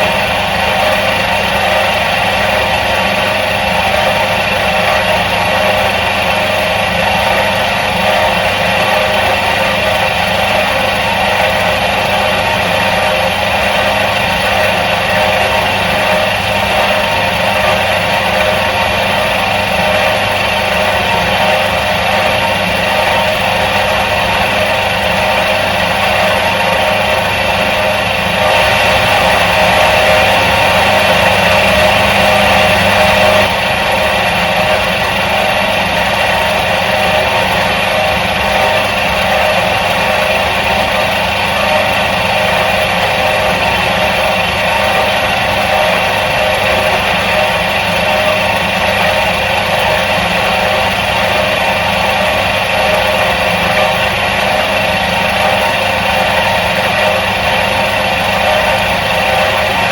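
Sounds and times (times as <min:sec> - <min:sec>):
washing machine motor humming: 0:00.0 - 0:59.9.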